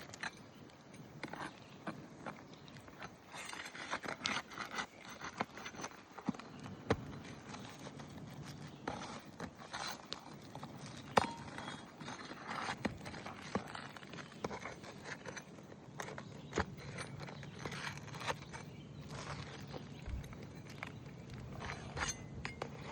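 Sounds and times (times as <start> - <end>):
scraping: 1.2 - 22.9.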